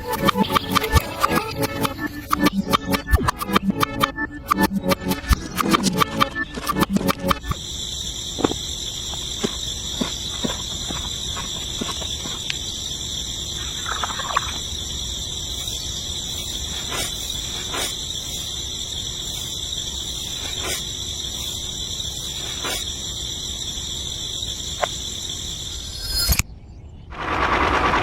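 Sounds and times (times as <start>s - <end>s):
insects chirring: 0.0s - 26.5s.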